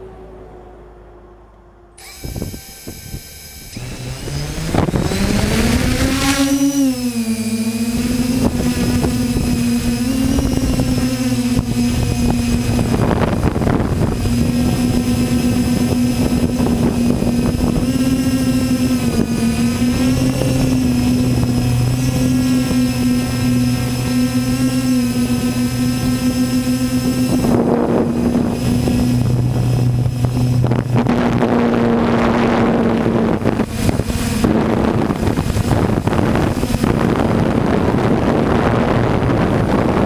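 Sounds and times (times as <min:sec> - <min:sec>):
drone motors whining: 0:00.0 - 0:40.0.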